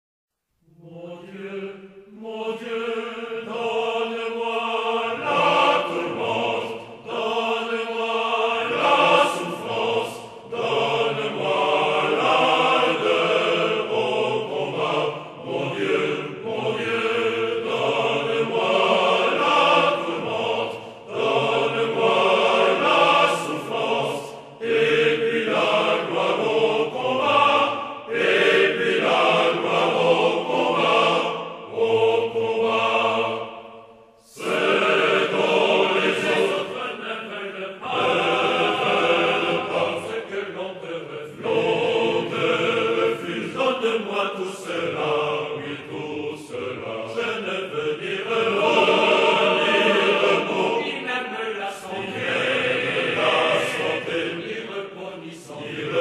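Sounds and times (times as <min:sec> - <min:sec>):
male choir singing in harmony: 0:00.8 - 0:56.0.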